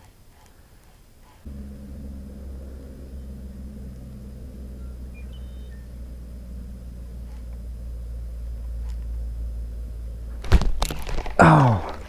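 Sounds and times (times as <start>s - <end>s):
machine humming: 1.4s - 12.0s.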